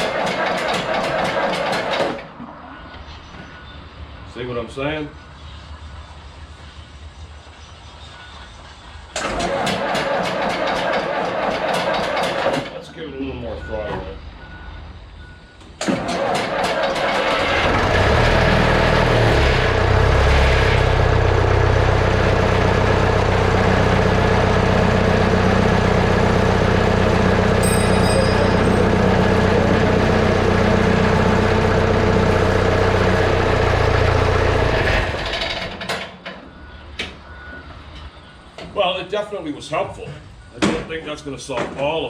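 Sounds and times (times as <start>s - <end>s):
diesel tractor engine running: 0.0s - 4.2s, 9.1s - 39.0s.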